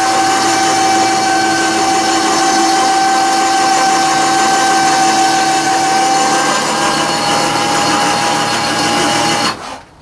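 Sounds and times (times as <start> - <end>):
electric winch motor whining: 0.0 - 9.6.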